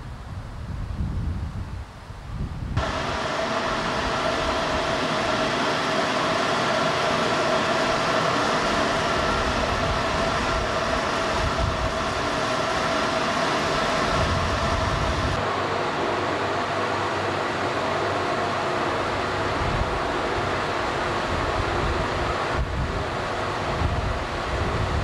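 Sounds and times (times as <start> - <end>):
diesel locomotive idling: 2.8 - 25.0.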